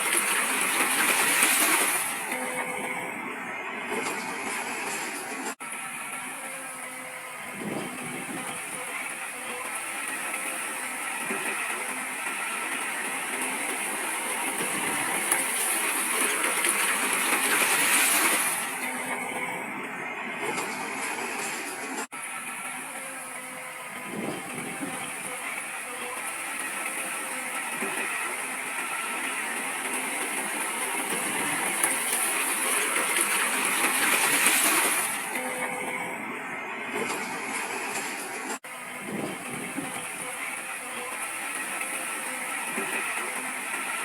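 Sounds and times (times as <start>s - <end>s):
heavy earthmoving machinery running: 0.0s - 44.0s.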